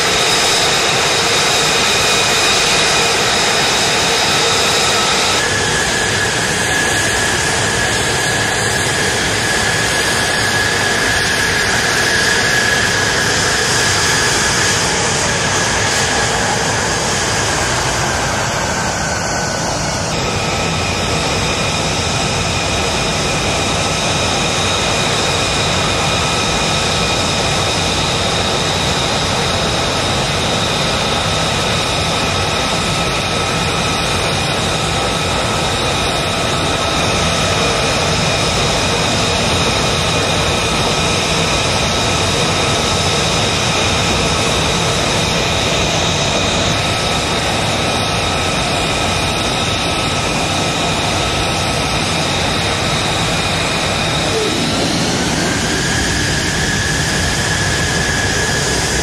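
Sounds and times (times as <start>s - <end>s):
jet engine roaring and whining: 0.0s - 59.0s.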